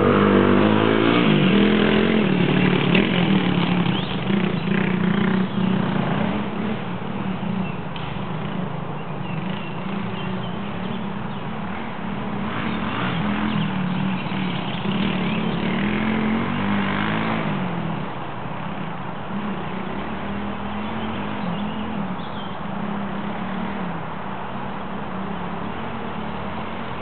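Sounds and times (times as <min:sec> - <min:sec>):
motorcycle riding past: 0:00.0 - 0:27.0.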